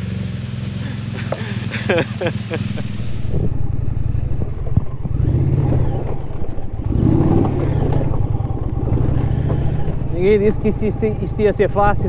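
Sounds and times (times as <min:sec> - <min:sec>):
motorcycle engine running under load: 0:00.0 - 0:12.0.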